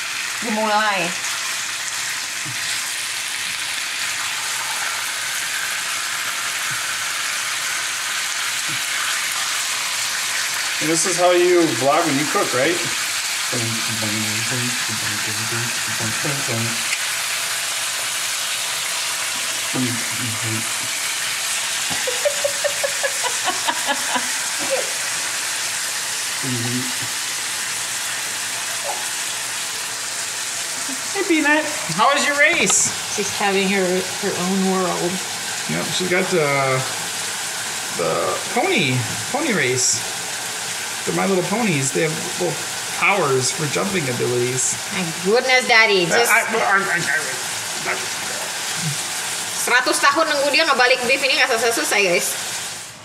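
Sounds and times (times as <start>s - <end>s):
meat sizzling in a wok: 0.0s - 53.0s.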